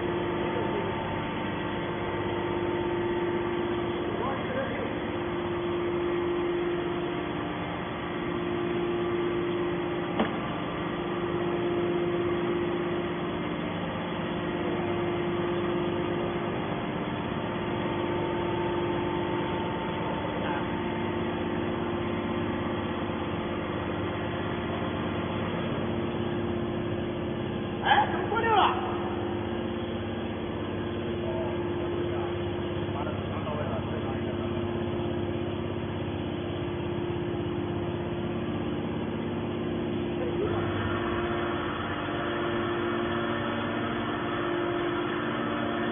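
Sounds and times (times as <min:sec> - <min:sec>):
hydraulic baler humming: 0:00.0 - 0:45.9.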